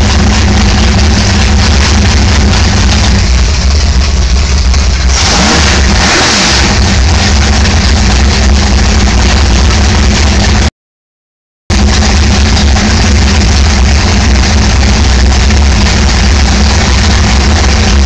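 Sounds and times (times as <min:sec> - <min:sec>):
speedboat engine running: 0:00.0 - 0:10.7, 0:11.7 - 0:18.0.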